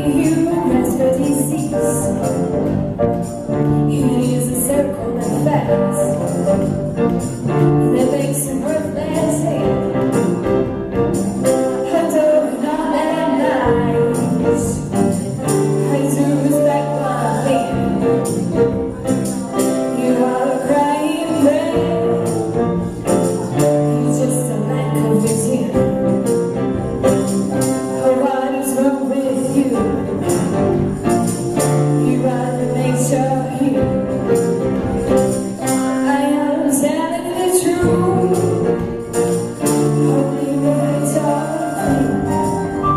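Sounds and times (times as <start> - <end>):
acoustic band playing: 0.0 - 42.9.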